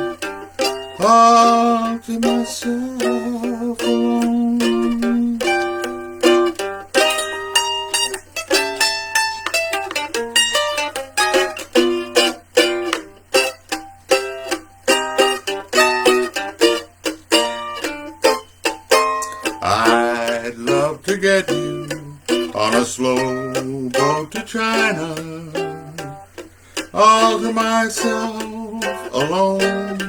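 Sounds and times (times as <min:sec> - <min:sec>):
plucked string instrument: 0:00.0 - 0:30.0.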